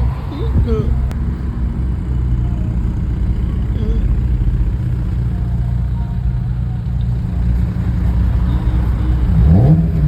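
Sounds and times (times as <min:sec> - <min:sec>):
car engine rumbling: 0:00.0 - 0:10.0.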